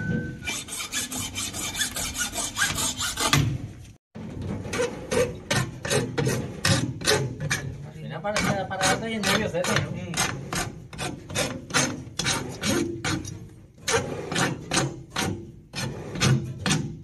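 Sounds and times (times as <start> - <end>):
hand scraping hard surface: 0.0 - 16.8.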